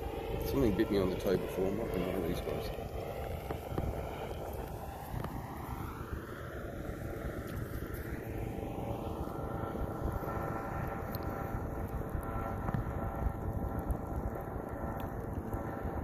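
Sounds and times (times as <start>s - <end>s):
distant engine drone: 0.0s - 16.0s
faint steady whine: 0.0s - 16.0s
wind rumble on microphone: 0.0s - 16.0s.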